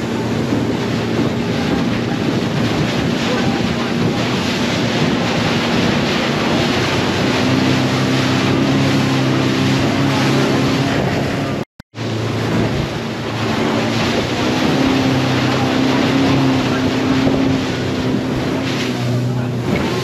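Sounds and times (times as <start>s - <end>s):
motorboat engine hum: 0.0s - 20.0s
water rushing off hull: 0.0s - 20.0s
wind buffeting microphone: 0.0s - 20.0s.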